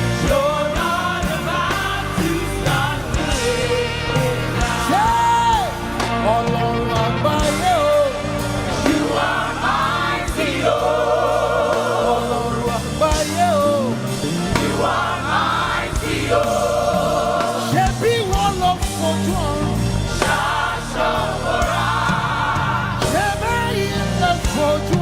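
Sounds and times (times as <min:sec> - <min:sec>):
band accompaniment: 0:00.0 - 0:25.0
group of voices singing: 0:00.0 - 0:25.0.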